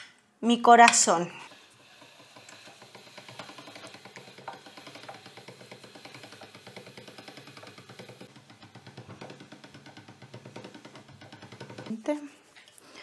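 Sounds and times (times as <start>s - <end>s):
pasta machine clicking: 0.8s - 12.2s.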